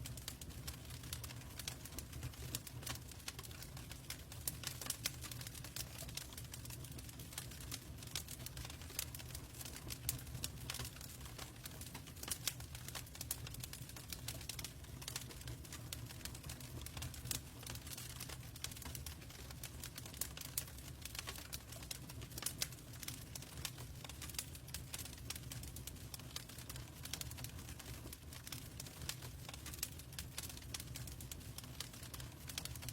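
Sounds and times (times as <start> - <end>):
log fire crackling: 0.1 - 32.9.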